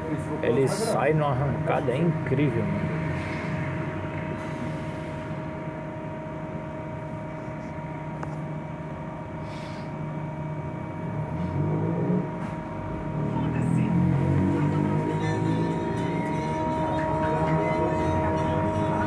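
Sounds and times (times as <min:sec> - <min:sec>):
trolleybus running: 0:00.0 - 0:19.0.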